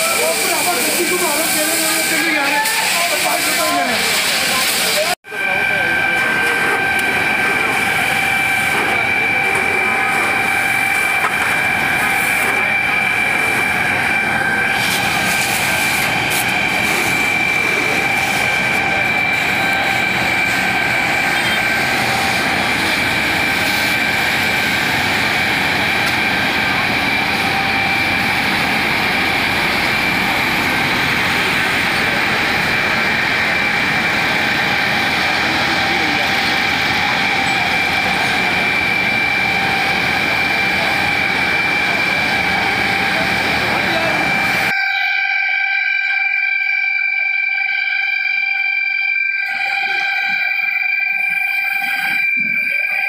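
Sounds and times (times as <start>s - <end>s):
high-pitched pump whine: 0.0s - 53.0s
water pump mechanical drone: 0.0s - 53.0s.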